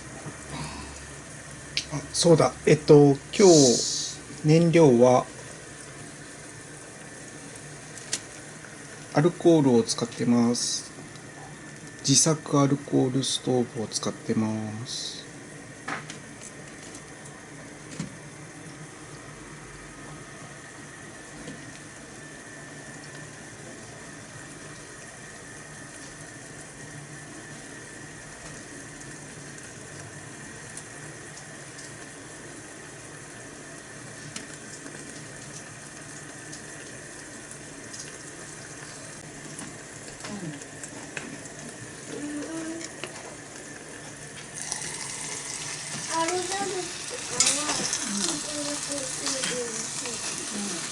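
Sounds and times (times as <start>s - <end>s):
stew bubbling in a pot: 0.0s - 12.1s, 15.3s - 50.9s.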